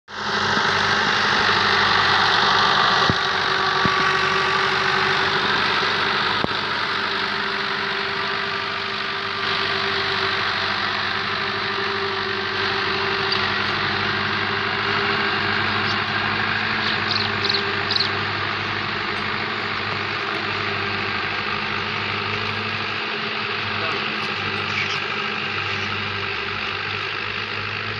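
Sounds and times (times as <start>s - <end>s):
tractor diesel engine under load: 0.1s - 27.9s.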